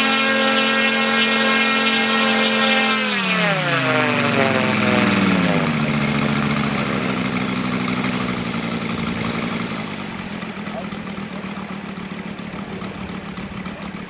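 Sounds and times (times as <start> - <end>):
model airplane engine: 0.0 - 14.0.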